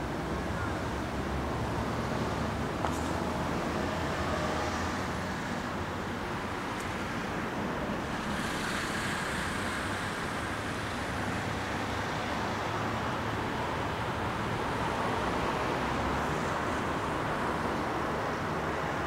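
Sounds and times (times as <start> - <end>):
road traffic hiss and rumble: 0.0 - 19.0.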